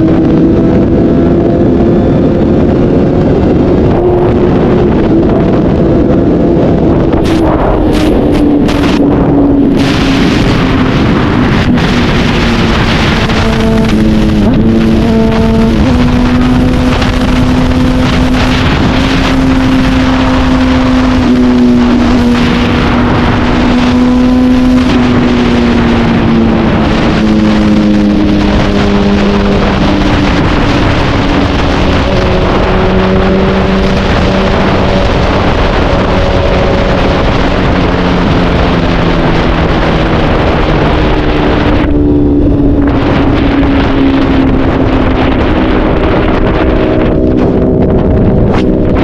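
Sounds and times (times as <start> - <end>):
motorcycle engine running: 0.0 - 49.0
wind noise on microphone: 0.0 - 49.0.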